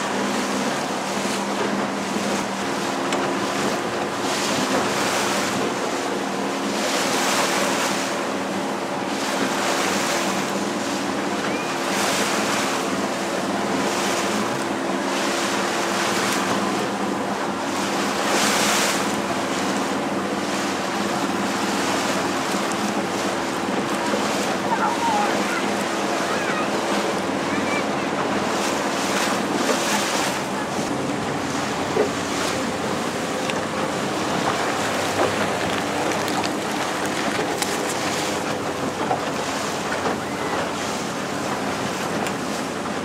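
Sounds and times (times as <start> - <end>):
boat motor humming: 0.0 - 43.0
water splashing along hull: 0.0 - 43.0.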